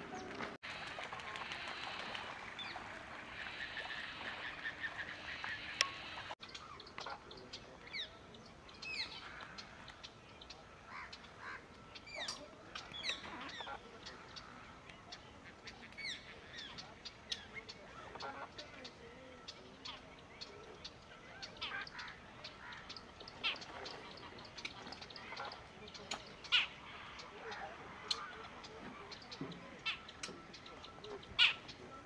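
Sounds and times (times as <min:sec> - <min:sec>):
waterbirds honking and chattering: 0:00.0 - 0:32.0.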